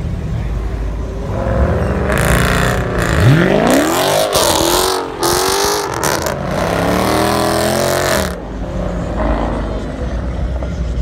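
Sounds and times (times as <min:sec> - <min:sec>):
car engine revving: 0:01.0 - 0:11.0.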